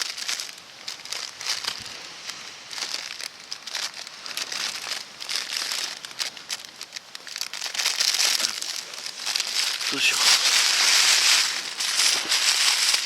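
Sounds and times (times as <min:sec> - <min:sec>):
plastic crinkling: 0:00.0 - 0:13.0.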